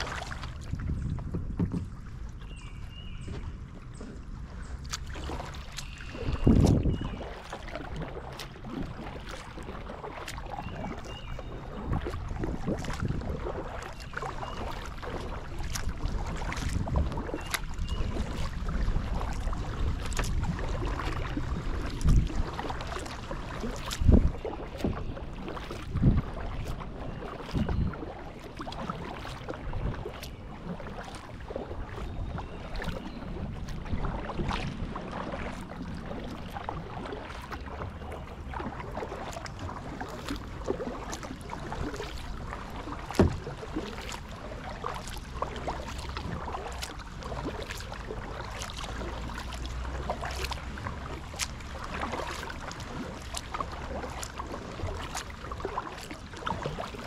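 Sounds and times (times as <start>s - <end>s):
paddle splashing and dripping: 0.0s - 57.0s
wind rumble on microphone: 0.0s - 57.0s.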